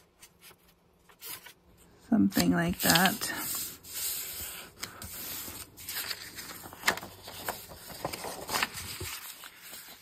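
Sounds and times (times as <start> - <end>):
paper rubbing and rustling: 0.0 - 10.0
paper crackling: 0.1 - 10.0.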